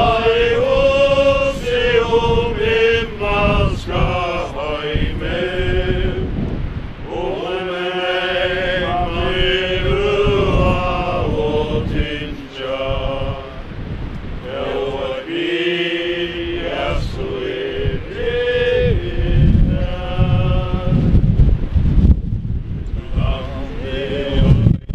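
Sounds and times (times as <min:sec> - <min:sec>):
congregation singing a hymn: 0:00.0 - 0:21.7, 0:22.8 - 0:24.8
wind rumbling on microphone: 0:00.0 - 0:24.9.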